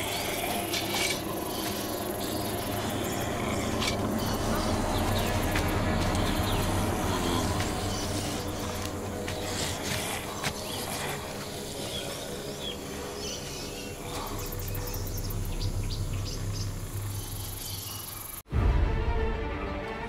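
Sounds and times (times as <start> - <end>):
steady low hum: 0.0 - 18.4
birds chirping: 0.0 - 18.5
insects chirping: 0.0 - 18.5.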